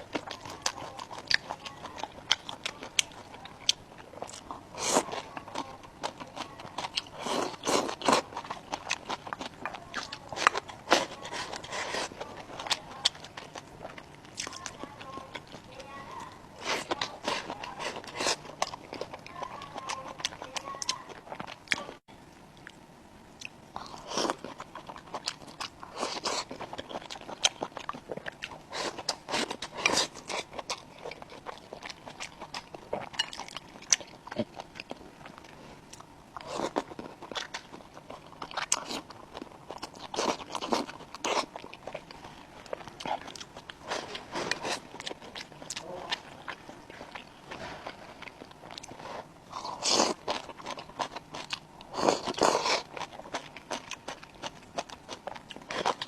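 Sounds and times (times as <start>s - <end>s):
person chewing and crunching food: 0.0s - 56.0s.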